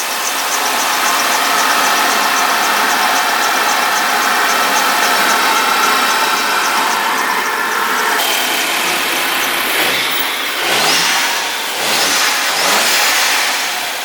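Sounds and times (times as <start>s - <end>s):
car engine idling with ticking: 0.0s - 14.0s.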